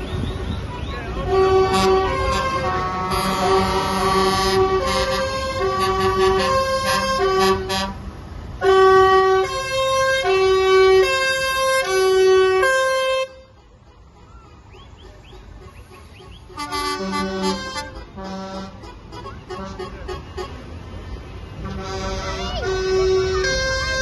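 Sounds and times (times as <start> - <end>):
truck engines running: 0.0 - 24.0
truck air horns playing a tune: 0.1 - 24.0.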